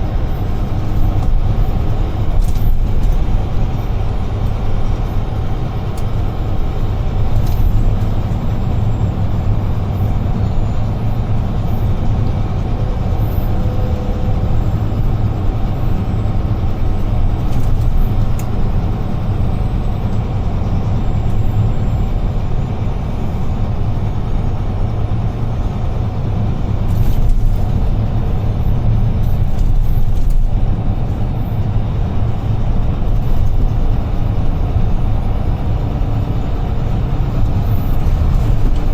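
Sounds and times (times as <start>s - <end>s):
road and tyre noise: 0.0s - 38.9s
truck engine drone: 0.0s - 38.9s.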